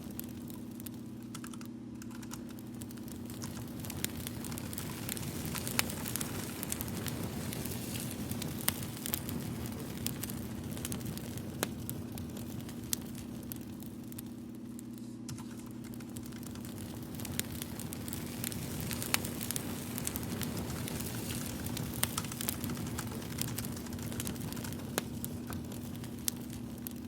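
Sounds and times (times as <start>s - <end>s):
low hum: 0.0s - 27.0s
wood fire crackling: 0.0s - 27.0s.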